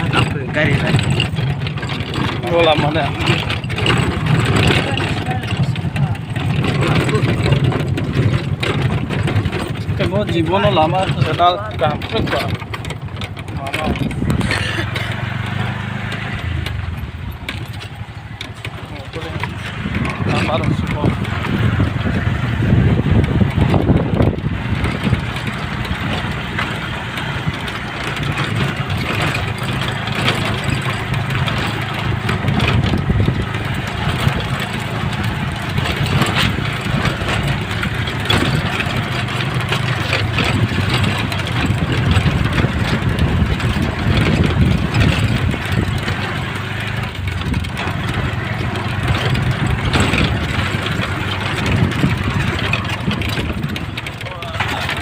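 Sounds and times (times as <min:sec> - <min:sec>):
knocks and rattles: 0:00.0 - 0:55.0
vehicle engine under load: 0:00.0 - 0:55.0.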